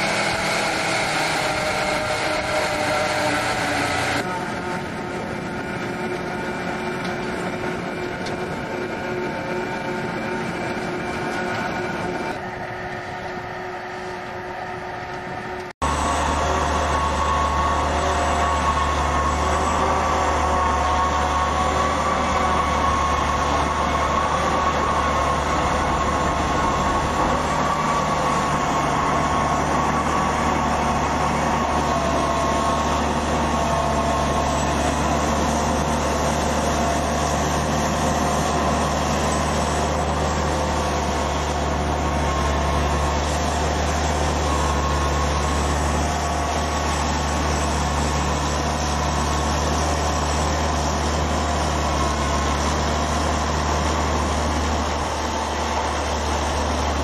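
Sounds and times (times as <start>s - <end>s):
low engine drone: 0.0s - 57.0s
steady high whine: 0.0s - 57.0s.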